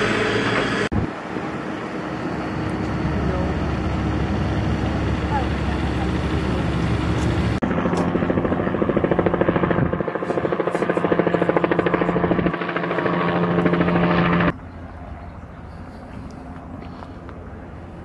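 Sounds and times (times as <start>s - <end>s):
steady rumble: 0.0s - 18.0s.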